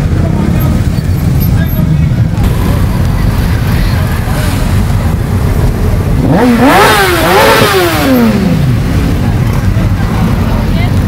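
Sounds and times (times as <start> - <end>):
motorcycle engine revving: 0.0 - 11.0
motorcycles idling: 0.0 - 11.0.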